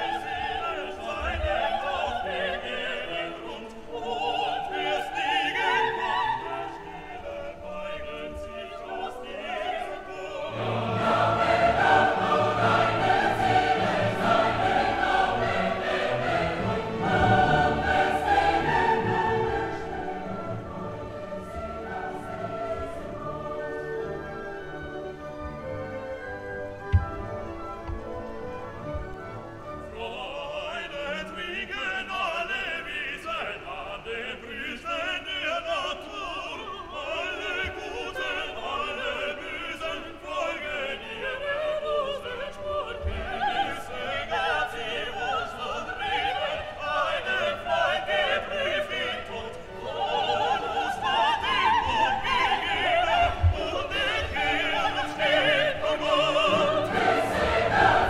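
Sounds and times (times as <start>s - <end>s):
operatic classical music with singing: 0.0s - 58.0s.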